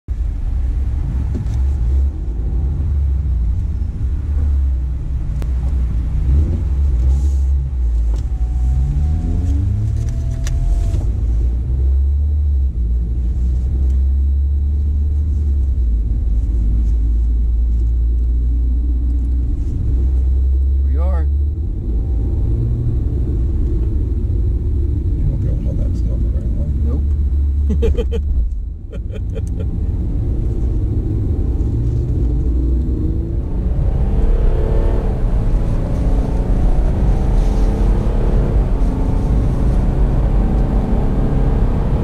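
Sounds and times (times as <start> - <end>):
road rumble: 0.1 - 42.0
car engine revving: 0.4 - 42.0.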